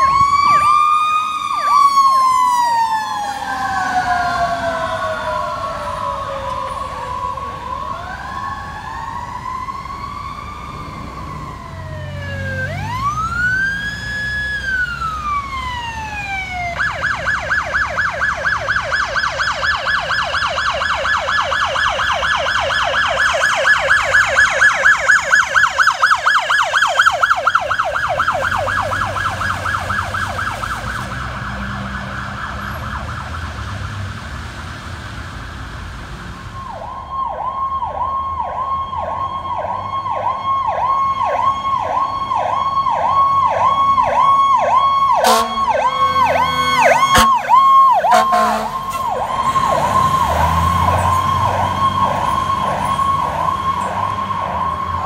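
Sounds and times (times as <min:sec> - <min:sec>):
electronic siren wailing and yelping: 0:00.0 - 0:33.6, 0:36.6 - 0:55.0
choppy repeating siren: 0:00.0 - 0:34.2, 0:36.5 - 0:55.0.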